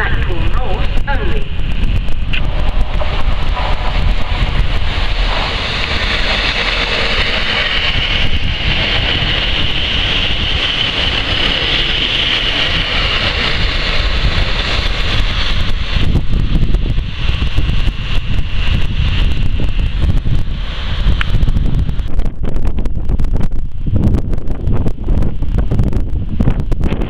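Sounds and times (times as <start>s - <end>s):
high whine of train: 0.0s - 27.0s
train rumbling past: 0.0s - 27.0s
wind buffeting microphone: 0.0s - 27.0s.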